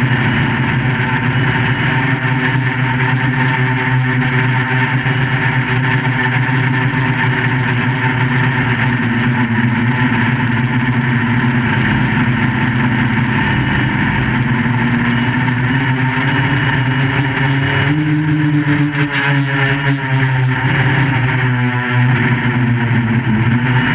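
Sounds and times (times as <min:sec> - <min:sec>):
drone propellers buzzing: 0:00.0 - 0:23.9.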